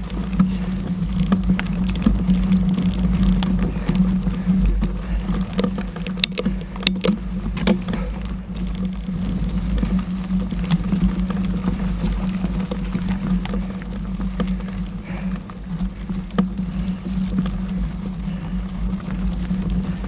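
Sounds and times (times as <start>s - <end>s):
bike rattling over bumps: 0.0s - 20.0s
wind and tyre rumble: 0.0s - 20.0s.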